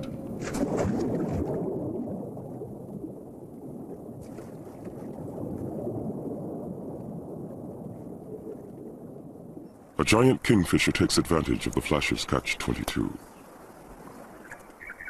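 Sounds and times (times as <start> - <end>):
underwater rush of water: 0.0 - 15.0.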